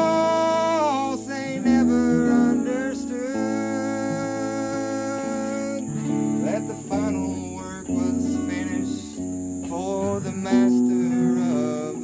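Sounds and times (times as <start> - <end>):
electric guitar slow melody: 0.0 - 12.0.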